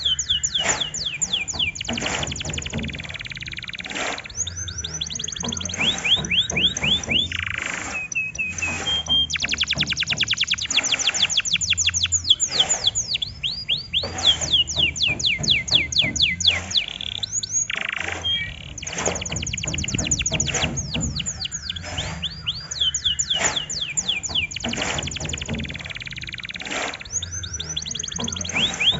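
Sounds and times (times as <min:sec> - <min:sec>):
canary singing: 0:00.0 - 0:28.9.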